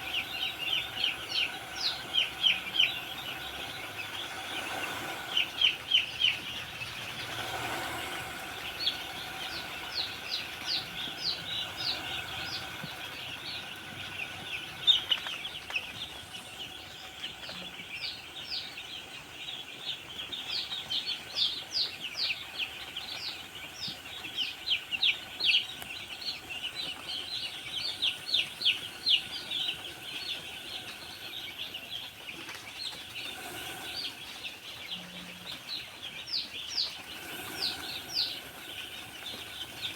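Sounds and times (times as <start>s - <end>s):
chicks peeping: 0.0s - 39.9s
faint steady hum: 0.0s - 39.9s.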